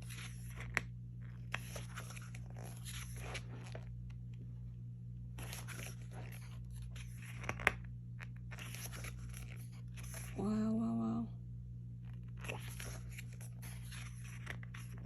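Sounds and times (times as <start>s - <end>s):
photobook pages turning: 0.0s - 4.3s, 5.3s - 10.4s, 12.0s - 15.0s
steady low hum: 0.0s - 15.0s.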